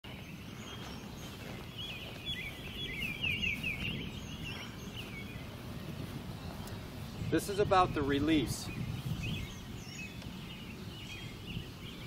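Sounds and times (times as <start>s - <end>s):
songbird singing quick chirps: 0.1s - 12.0s
low outdoor rumble: 0.2s - 12.0s.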